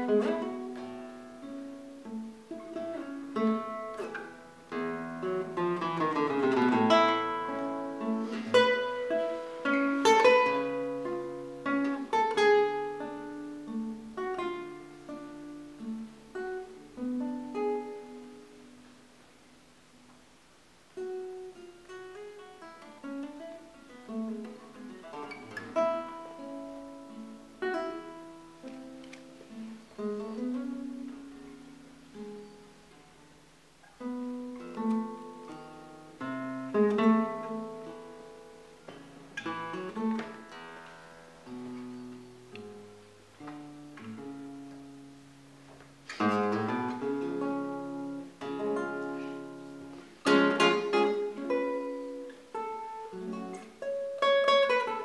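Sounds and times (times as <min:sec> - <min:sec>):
classical guitar playing: 0:00.0 - 0:55.0.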